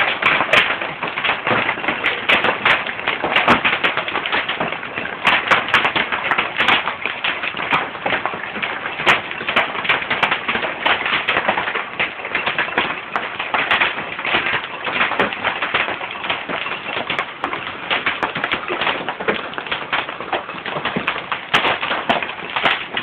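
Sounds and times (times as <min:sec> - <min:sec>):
hailstones hitting hard surfaces: 0:00.0 - 0:23.0.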